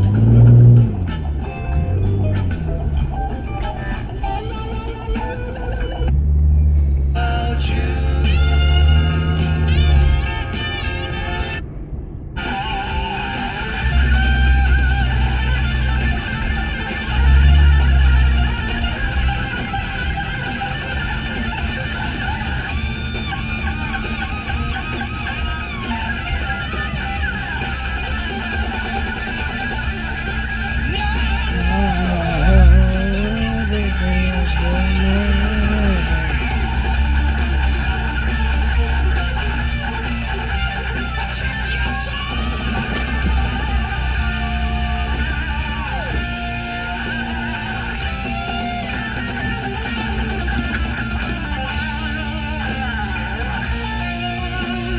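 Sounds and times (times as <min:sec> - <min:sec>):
guitar-driven rock music: 0:00.0 - 0:54.9.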